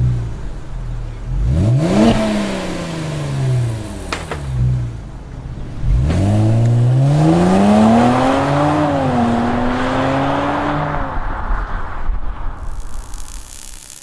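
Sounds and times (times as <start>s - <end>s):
car engine accelerating hard: 0.0s - 12.7s.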